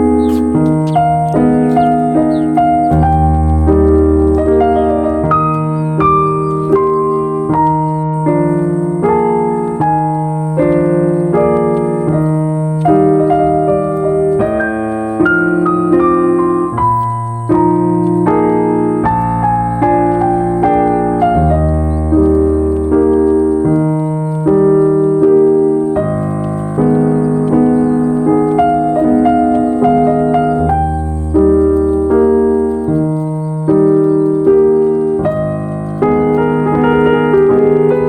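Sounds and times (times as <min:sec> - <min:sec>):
calm piano music: 0:00.0 - 0:38.0.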